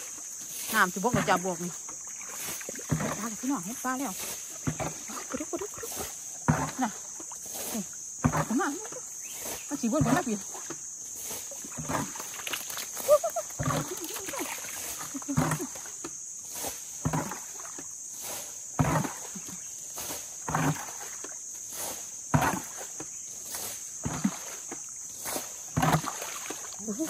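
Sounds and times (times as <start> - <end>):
bucket scooping and splashing water: 0.0 - 27.0
insects droning: 0.0 - 27.0.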